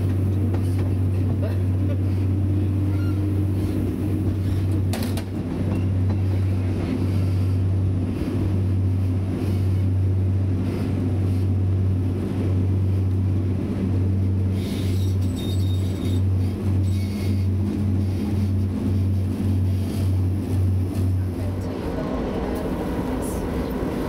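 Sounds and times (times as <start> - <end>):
train engine drone: 0.0 - 24.0.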